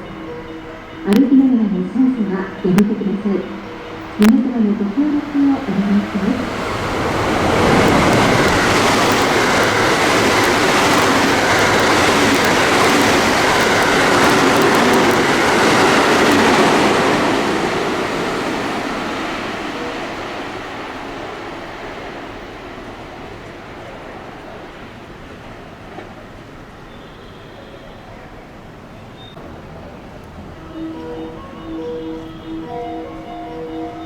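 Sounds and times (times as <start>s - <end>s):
electric train passing at speed: 0.0s - 34.0s.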